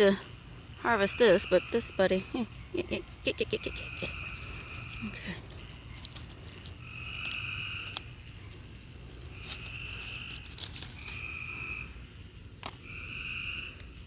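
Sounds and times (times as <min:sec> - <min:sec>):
dry pea vines crackling: 0:00.0 - 0:14.0
night animal calling: 0:00.8 - 0:14.0.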